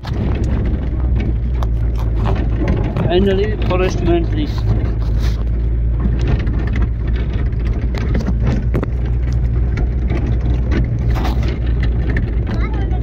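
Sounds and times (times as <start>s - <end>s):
car body knocking and rattling: 0.0s - 13.0s
car engine droning: 0.0s - 13.0s.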